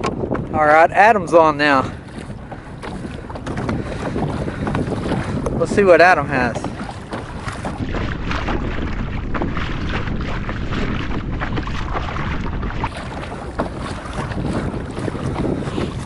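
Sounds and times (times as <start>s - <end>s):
waves slapping against hull: 0.0s - 16.0s
wind buffeting microphone: 0.0s - 16.0s.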